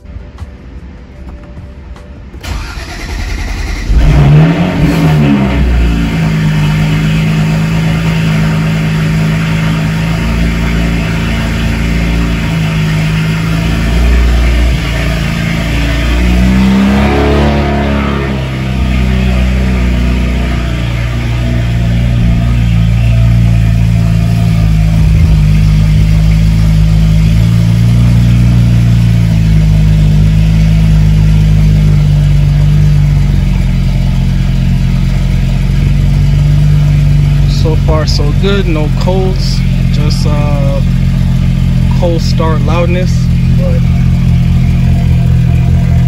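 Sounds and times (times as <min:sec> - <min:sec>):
car engine starting and idling: 0:00.0 - 0:46.0
engine revving: 0:02.4 - 0:46.0.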